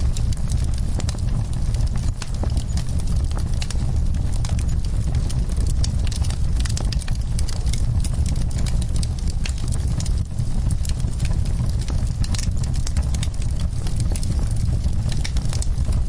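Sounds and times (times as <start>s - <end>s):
low rumble: 0.0s - 16.0s
wood fire crackling: 0.0s - 16.0s.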